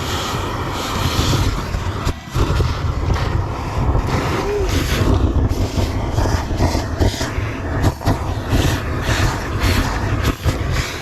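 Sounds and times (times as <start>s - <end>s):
suction hose rushing hiss: 0.0s - 11.0s
truck engine and vacuum rumble: 0.0s - 11.0s.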